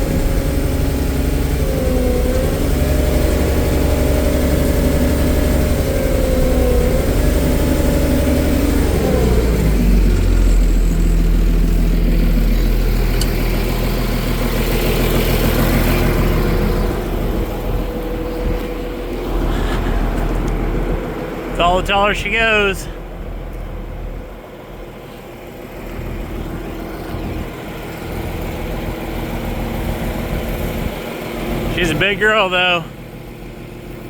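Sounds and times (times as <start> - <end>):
forklift diesel engine running: 0.0 - 34.0.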